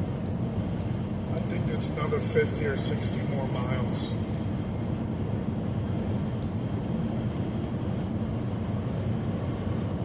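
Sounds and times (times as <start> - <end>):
truck cab road noise and engine drone: 0.0 - 10.0.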